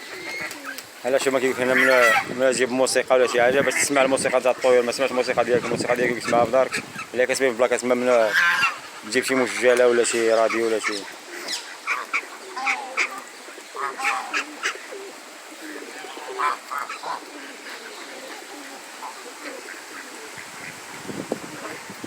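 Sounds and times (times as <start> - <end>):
ducks calling: 0.0 - 20.9.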